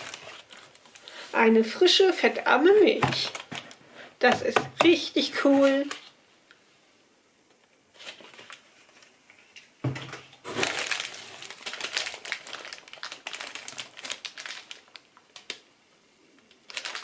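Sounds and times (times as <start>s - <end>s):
plastic packaging crinkling: 0.0s - 6.2s, 7.9s - 15.7s, 16.3s - 17.0s.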